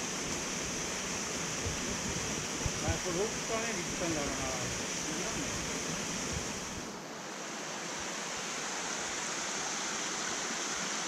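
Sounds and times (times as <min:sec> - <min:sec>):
stream water running over rocks: 0:00.0 - 0:11.0.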